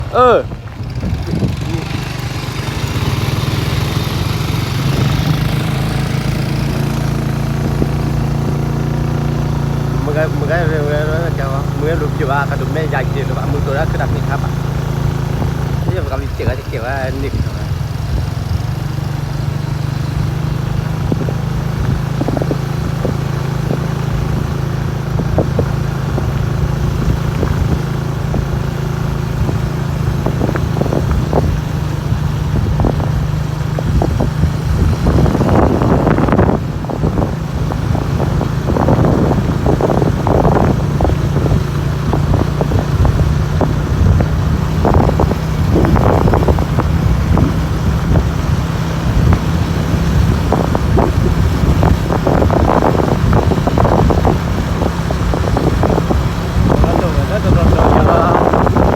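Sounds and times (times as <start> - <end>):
motorcycle engine running: 0.0 - 58.9
wind buffeting microphone: 0.0 - 58.9.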